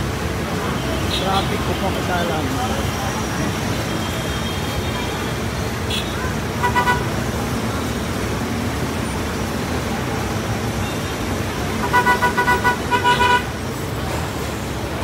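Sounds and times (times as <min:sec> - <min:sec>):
idling engines and road noise: 0:00.0 - 0:15.0.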